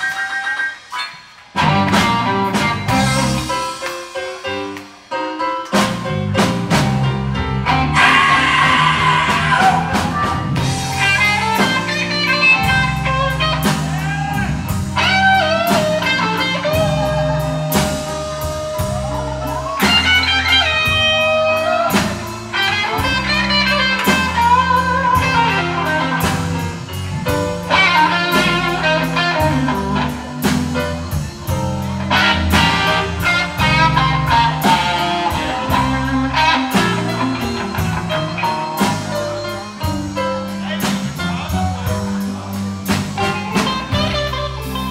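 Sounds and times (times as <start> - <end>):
bass: 0.0 - 44.9
electric guitar lead: 0.0 - 44.9
drum kit steady beat: 1.5 - 44.9.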